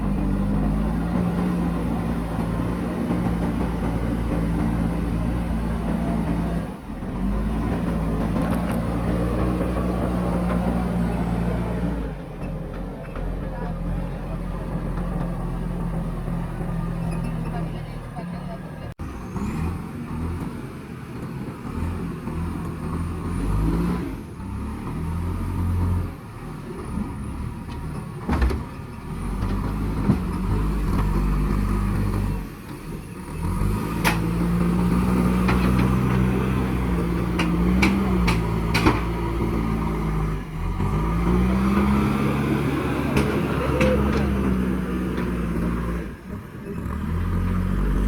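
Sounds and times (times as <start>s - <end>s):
diesel engine under load: 0.0s - 48.0s.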